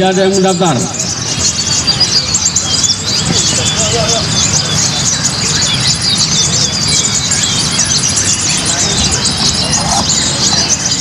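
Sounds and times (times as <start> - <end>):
crowd chatter: 0.0 - 11.0
songbirds chirping and trilling: 0.0 - 11.0.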